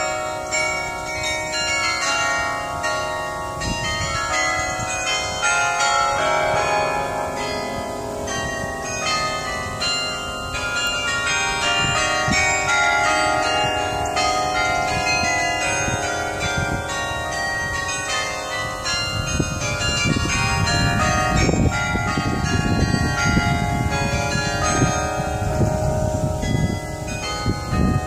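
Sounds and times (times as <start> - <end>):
carillon bells playing music: 0.0 - 28.0.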